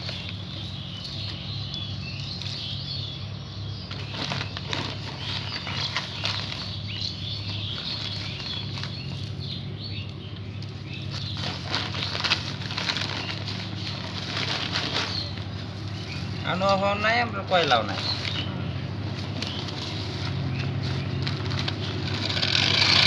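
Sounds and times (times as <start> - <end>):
small birds chirping: 0.0 - 23.0
steady low hum: 0.0 - 23.0
charcoal lumps clicking: 3.9 - 23.0.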